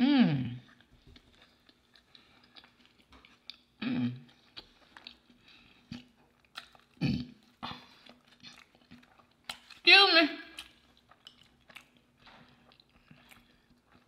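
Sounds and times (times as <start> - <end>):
person chewing: 0.5 - 9.9, 10.5 - 14.0.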